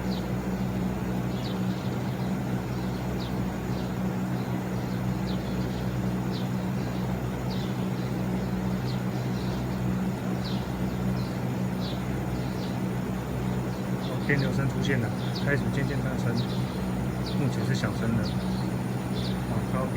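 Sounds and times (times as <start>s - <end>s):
air conditioner fan hum: 0.0s - 19.9s.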